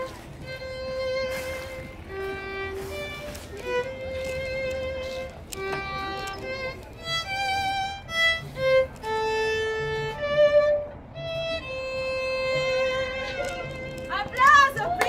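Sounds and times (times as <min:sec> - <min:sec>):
solo violin melody: 0:00.0 - 0:15.0.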